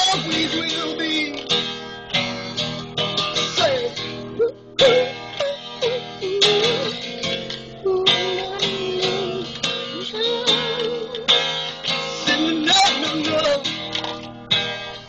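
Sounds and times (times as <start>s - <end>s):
acoustic blues guitar: 0.0s - 15.0s.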